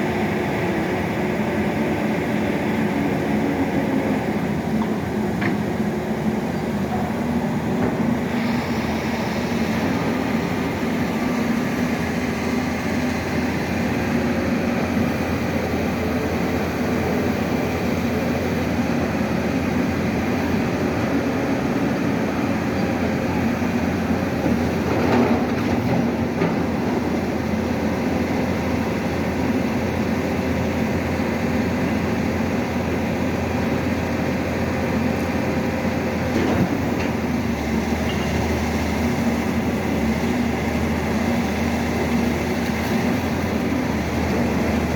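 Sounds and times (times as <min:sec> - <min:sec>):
drilling rig engine drone: 0:00.0 - 0:44.9.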